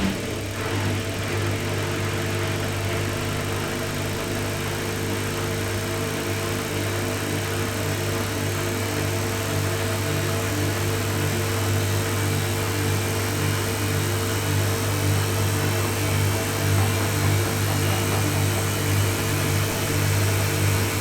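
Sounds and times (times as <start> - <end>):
washing machine spinning: 0.0 - 21.0.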